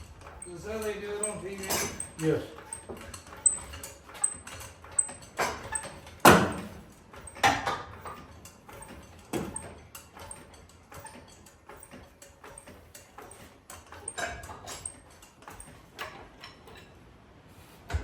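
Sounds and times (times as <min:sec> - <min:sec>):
metallic clanks and knocks: 0:00.0 - 0:17.0.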